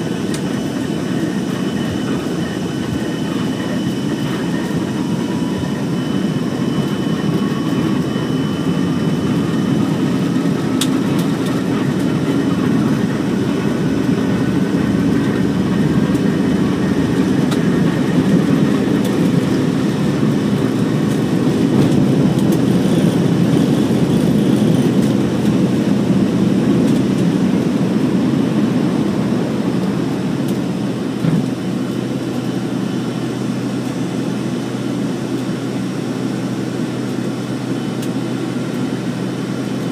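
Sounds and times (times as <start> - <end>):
airliner engines rumbling: 0.0 - 39.9
faint engine whine: 0.0 - 39.9.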